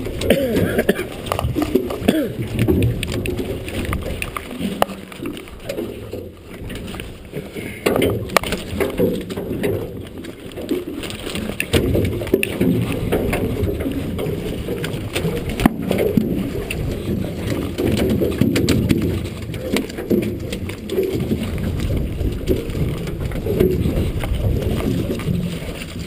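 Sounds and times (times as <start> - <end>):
water sloshing: 0.0 - 26.0
muffled knocks and clicks: 0.2 - 26.0.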